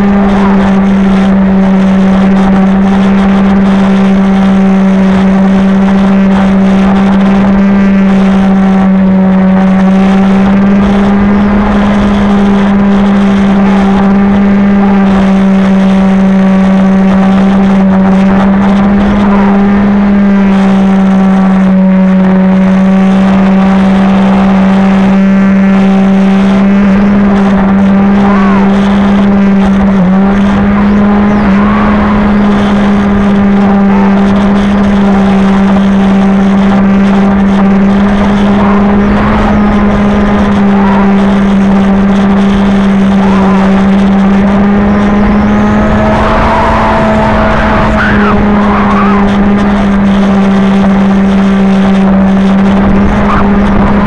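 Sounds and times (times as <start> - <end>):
model airplane motor whine: 0.0 - 54.0.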